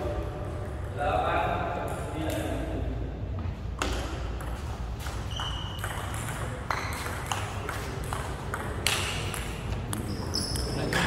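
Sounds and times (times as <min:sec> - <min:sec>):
low hum of hall: 0:00.0 - 0:11.0.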